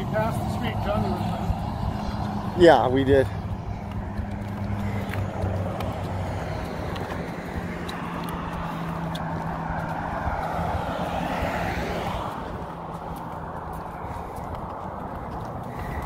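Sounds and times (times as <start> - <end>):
cars passing: 0.0 - 16.0
low engine hum: 0.0 - 16.0.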